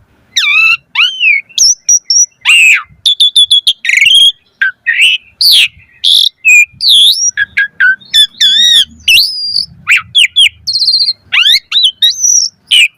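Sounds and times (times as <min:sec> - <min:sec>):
starling singing: 0:00.3 - 0:12.9.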